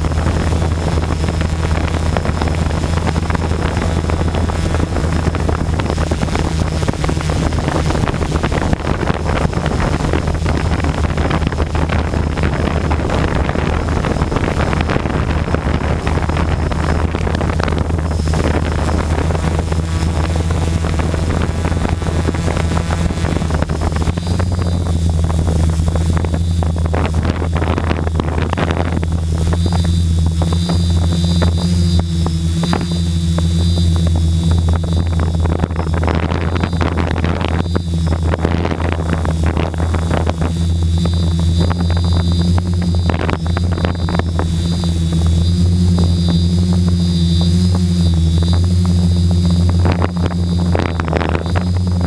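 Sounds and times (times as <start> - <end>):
drone motors droning: 0.0 - 52.0
high motor whine: 0.0 - 52.0
wind noise on microphone: 0.0 - 52.0.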